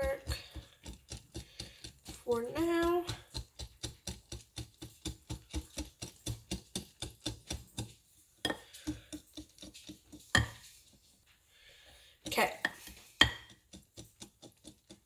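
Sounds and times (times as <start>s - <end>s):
whisk clicking against bowl: 0.0s - 10.7s, 12.2s - 15.0s.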